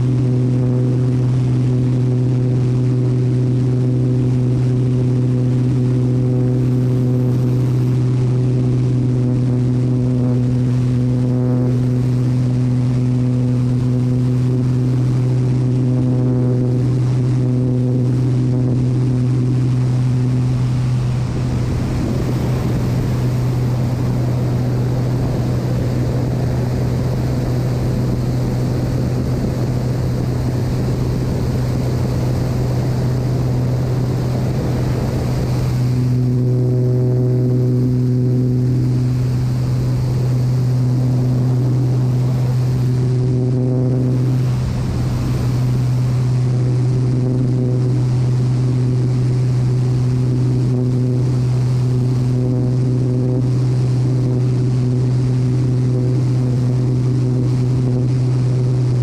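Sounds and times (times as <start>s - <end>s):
airplane engine and propeller droning: 0.0s - 59.0s.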